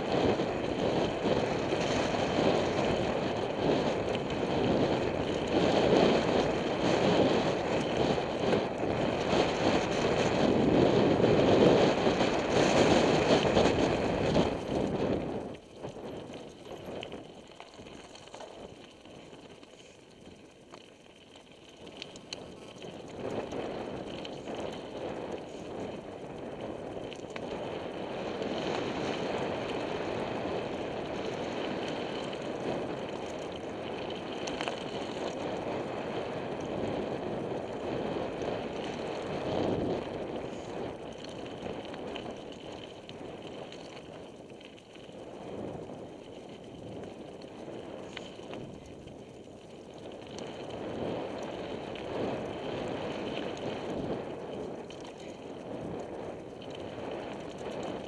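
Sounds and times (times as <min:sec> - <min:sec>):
wind rushing over microphone: 0:00.0 - 0:19.4, 0:21.9 - 0:58.0
bike rattling: 0:00.0 - 0:58.0
bike tyres crunching over gravel: 0:00.0 - 0:58.0.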